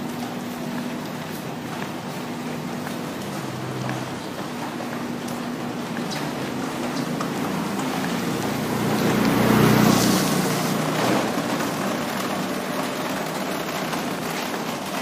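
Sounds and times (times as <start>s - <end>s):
traffic hiss on wet road: 0.0s - 15.0s.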